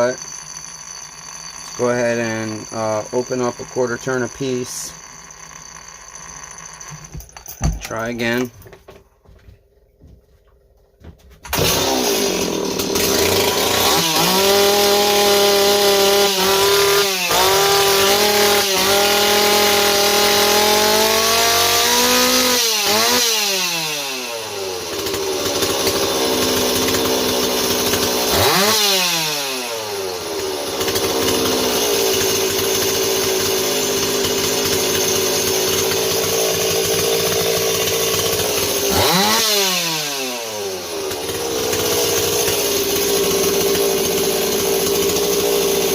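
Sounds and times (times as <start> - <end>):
chainsaw starting and running: 0.0 - 8.8, 11.4 - 45.9.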